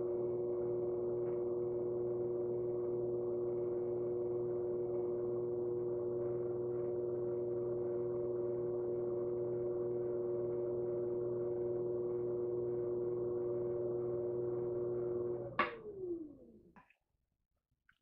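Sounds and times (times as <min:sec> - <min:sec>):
pottery wheel motor humming: 0:00.0 - 0:16.8.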